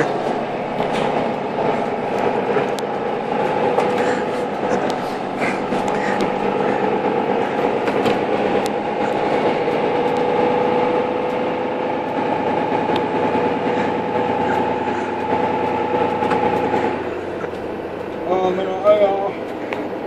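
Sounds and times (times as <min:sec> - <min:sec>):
bus engine and road drone: 0:00.0 - 0:20.0
held whine: 0:00.0 - 0:20.0.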